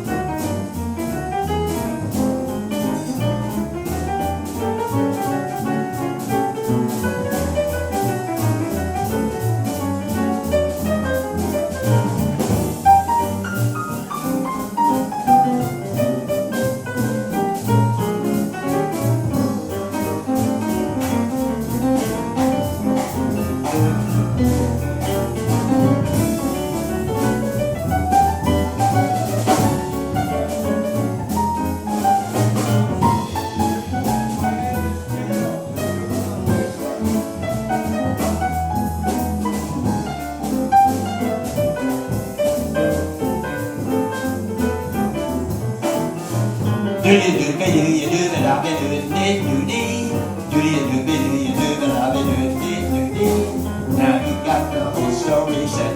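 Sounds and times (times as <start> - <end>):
double bass: 0.0 - 55.9
drum kit beat: 0.0 - 55.9
piano fast runs: 0.0 - 55.9.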